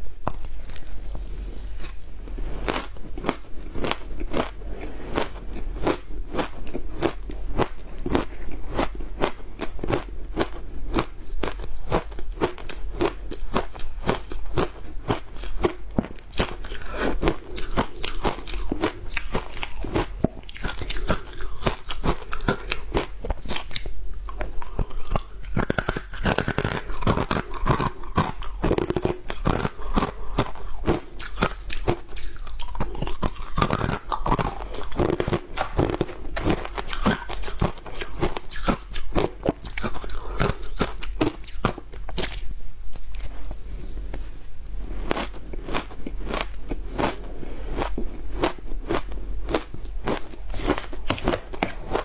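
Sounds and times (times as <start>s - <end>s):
ice being chewed: 0.2s - 52.0s.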